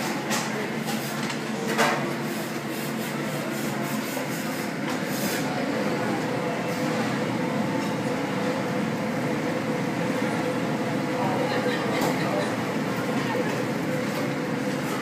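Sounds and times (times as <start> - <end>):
restaurant background hum: 0.0 - 15.0.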